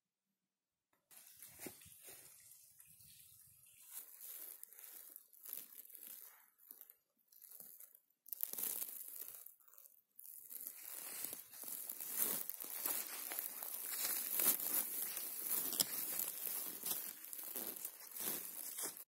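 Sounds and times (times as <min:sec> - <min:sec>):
rustling and crackling of dry leaves: 0:01.1 - 0:19.0.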